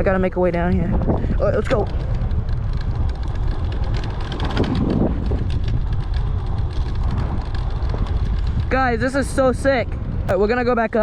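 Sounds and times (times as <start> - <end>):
electric scooter rumbling over rough ground: 0.0 - 11.0
wind buffeting microphone: 0.0 - 11.0
small clicks and rattles: 0.1 - 9.8.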